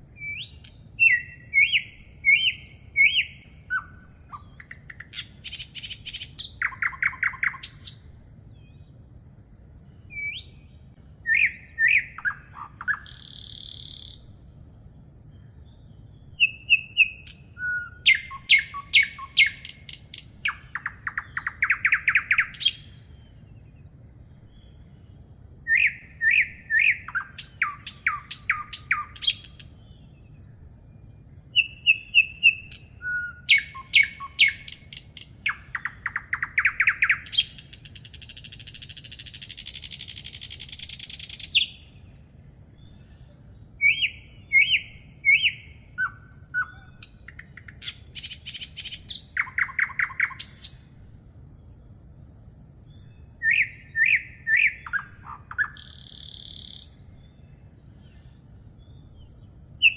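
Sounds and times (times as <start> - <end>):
birds chirping and trilling: 0.0 - 59.9
faint low hum: 0.0 - 59.9.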